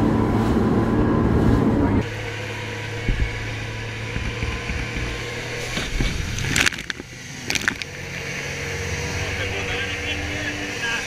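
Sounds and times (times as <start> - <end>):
water rushing off hull: 0.0 - 9.2
outboard motor running: 2.0 - 11.0.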